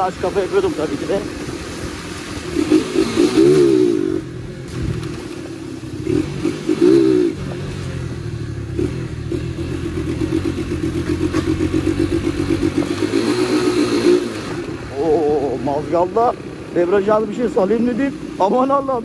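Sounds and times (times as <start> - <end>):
motorcycle engine throbbing: 0.0 - 19.0.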